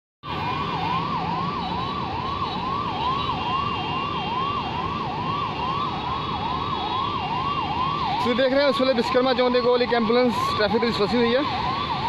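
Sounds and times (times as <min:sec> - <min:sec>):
ambulance siren yelping: 0:00.2 - 0:12.0
traffic noise: 0:00.2 - 0:12.0.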